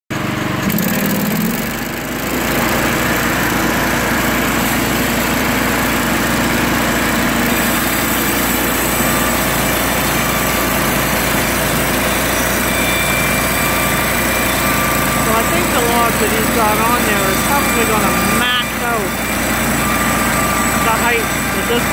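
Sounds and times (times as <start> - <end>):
bandsaw mill cutting log: 0.1 - 21.9.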